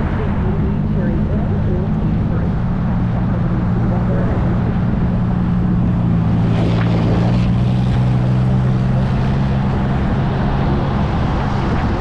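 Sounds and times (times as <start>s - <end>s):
road and wind noise: 0.0s - 12.0s
vehicle engine drone: 0.0s - 12.0s.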